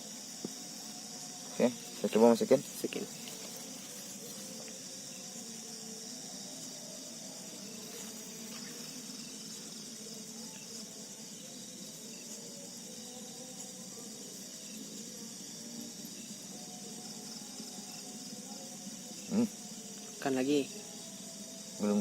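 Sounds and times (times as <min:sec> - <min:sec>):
night insects trilling: 0:00.0 - 0:22.0.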